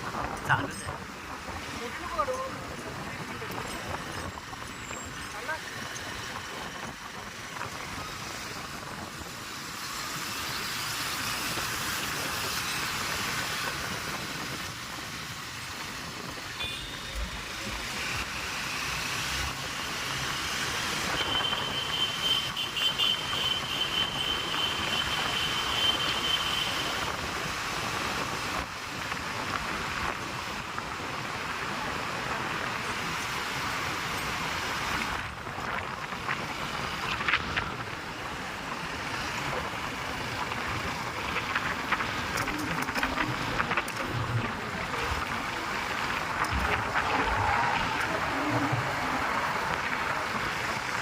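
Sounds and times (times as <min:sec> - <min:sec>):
vehicle road and wind noise: 0:00.0 - 0:51.0.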